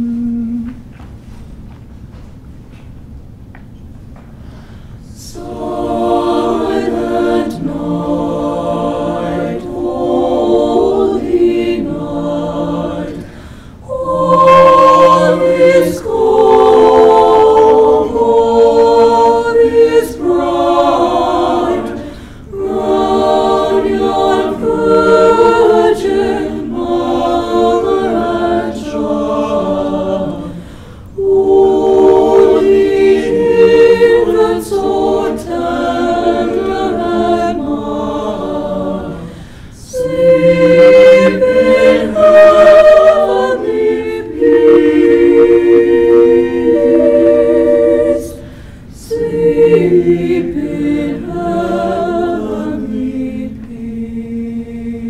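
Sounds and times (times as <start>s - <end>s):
choir singing a cappella: 0.0s - 0.9s, 4.8s - 55.0s.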